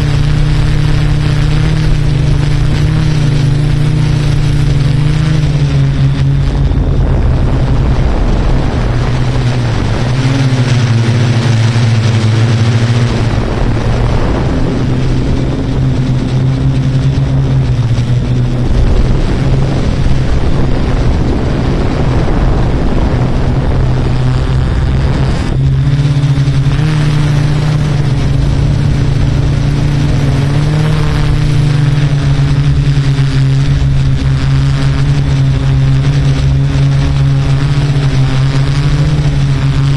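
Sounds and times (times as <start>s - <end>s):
drone motors and propellers: 0.0s - 39.9s
wind rush on microphone: 0.0s - 39.9s.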